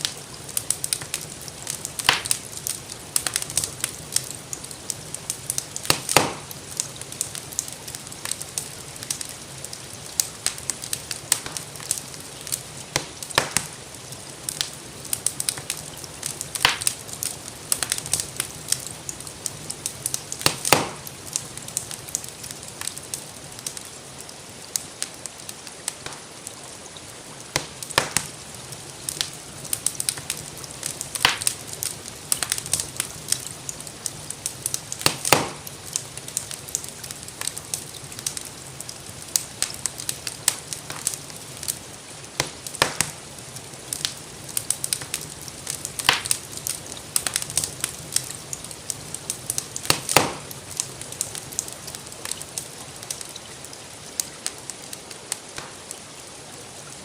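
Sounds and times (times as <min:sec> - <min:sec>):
rain hissing: 0:00.0 - 0:57.0
wood fire crackling: 0:00.0 - 0:57.0.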